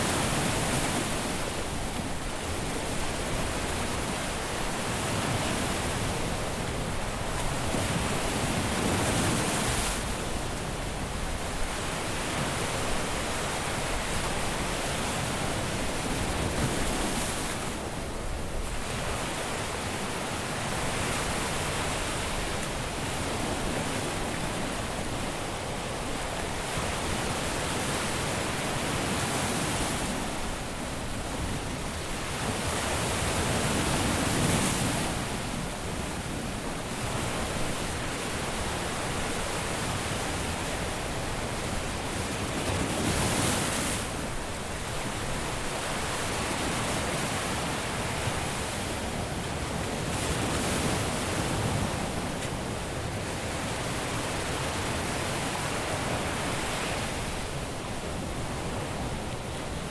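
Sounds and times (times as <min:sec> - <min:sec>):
surf washing onto beach: 0:00.0 - 0:59.9.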